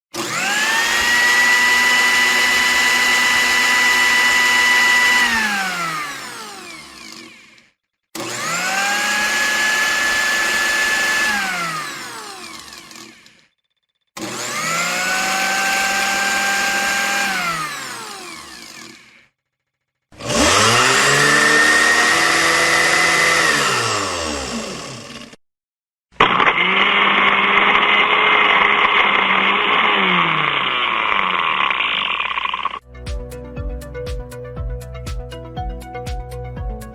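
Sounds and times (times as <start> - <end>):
kitchen blender motor whine: 0.1 - 19.4, 20.1 - 25.4, 26.2 - 32.8.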